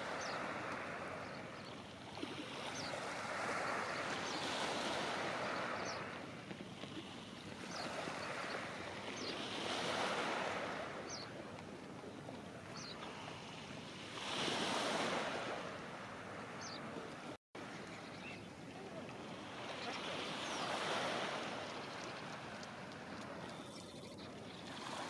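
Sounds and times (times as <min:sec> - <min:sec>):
sea waves washing onto shore: 0:00.0 - 0:25.0
wind: 0:00.0 - 0:25.0.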